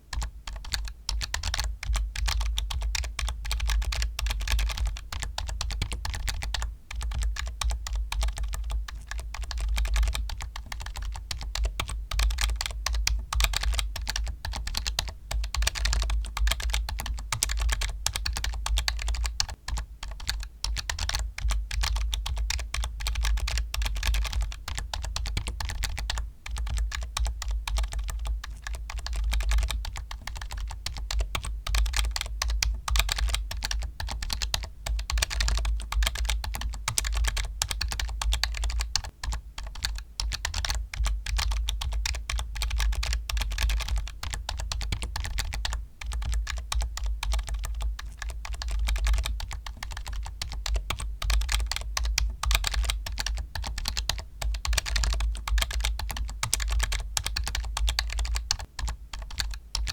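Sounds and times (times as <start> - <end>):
fast typing on keyboard: 0.0 - 59.9.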